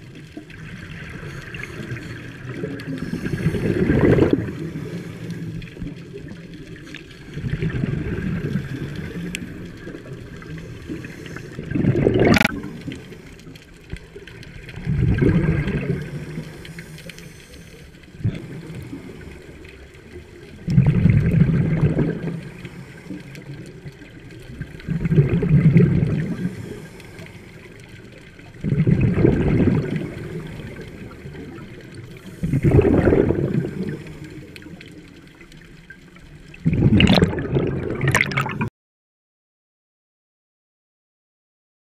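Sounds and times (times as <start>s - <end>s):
low underwater rush: 0.0s - 38.7s
underwater exhaust bubbles: 0.0s - 38.7s.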